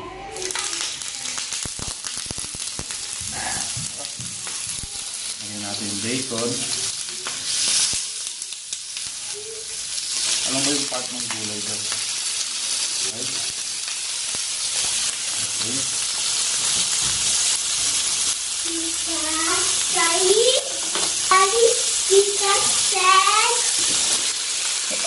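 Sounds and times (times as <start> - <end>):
food sizzling on a grill plate: 0.1 - 25.0.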